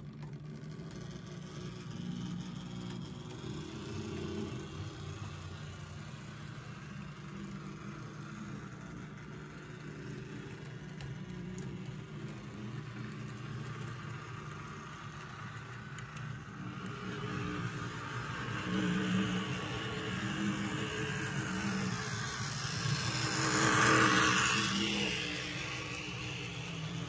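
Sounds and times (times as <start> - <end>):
model train motor hum: 0.0 - 27.0
wheels rolling on track: 0.0 - 27.0.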